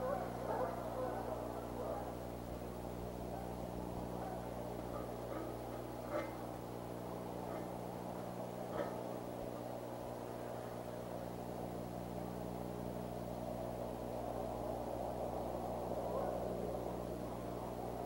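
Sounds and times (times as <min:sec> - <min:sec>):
low electrical hum: 0:00.0 - 0:18.0
microphone hiss: 0:00.0 - 0:18.0.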